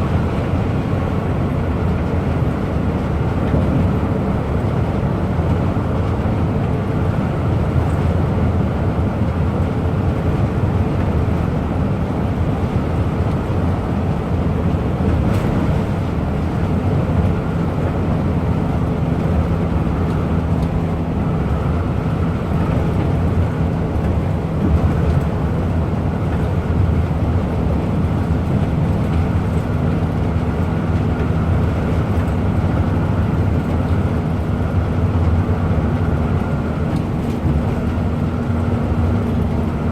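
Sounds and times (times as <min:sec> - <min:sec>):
bus engine drone: 0:00.0 - 0:39.9
road and wind noise: 0:00.0 - 0:39.9.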